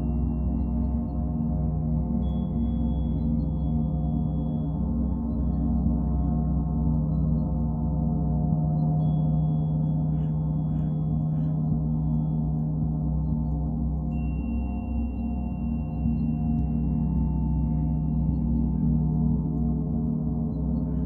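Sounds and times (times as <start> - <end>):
thin high ringing tone: 0.0 - 6.5, 8.4 - 21.0
gong droning: 0.0 - 21.0.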